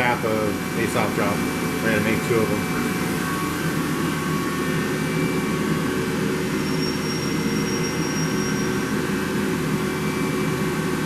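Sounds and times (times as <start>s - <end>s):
milling machine running: 0.0s - 11.0s
thin high whine: 0.0s - 11.0s.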